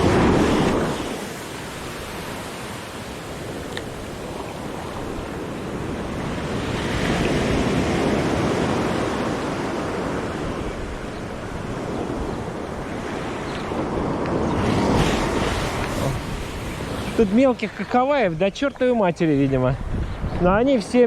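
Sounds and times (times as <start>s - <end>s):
sea waves: 0.0s - 21.0s
wind on microphone: 0.0s - 21.0s.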